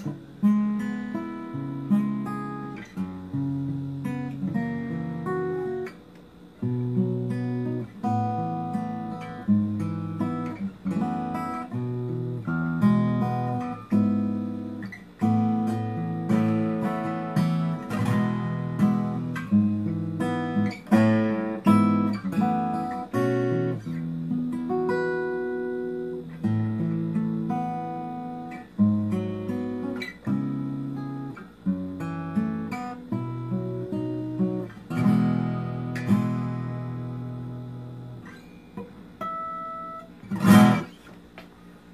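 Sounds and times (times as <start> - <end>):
acoustic guitar strummed and picked: 0.0 - 41.9.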